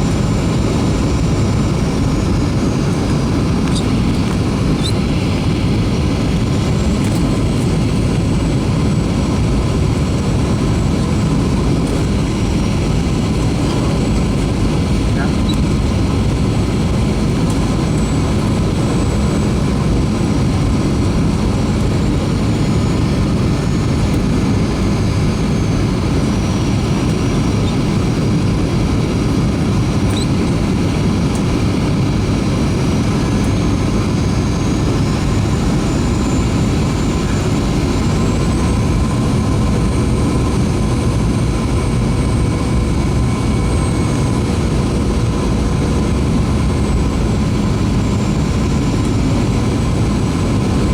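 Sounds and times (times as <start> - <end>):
high engine whine: 0.0 - 50.9
jet cabin roar: 0.0 - 50.9.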